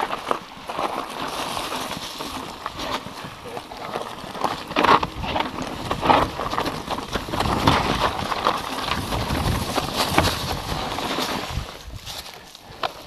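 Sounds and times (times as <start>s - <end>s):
bike frame rattling: 0.0s - 13.0s
tyres crunching over rocks: 0.0s - 13.0s
wheels knocking on stones: 0.0s - 13.0s.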